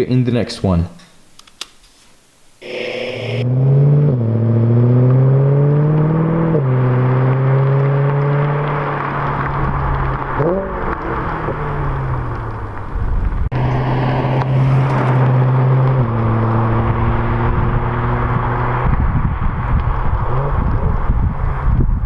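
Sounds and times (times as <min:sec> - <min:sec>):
car engine running: 0:03.4 - 0:21.6.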